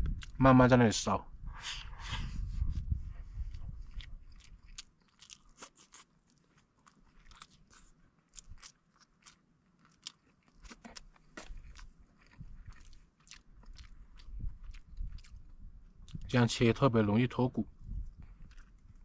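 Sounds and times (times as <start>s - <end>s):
biting and chewing: 1.8s - 16.3s, 17.8s - 19.0s.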